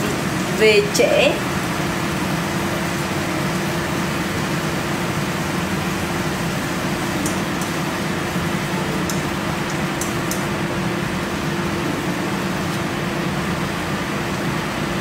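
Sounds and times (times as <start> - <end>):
range hood fan running: 0.0 - 15.0.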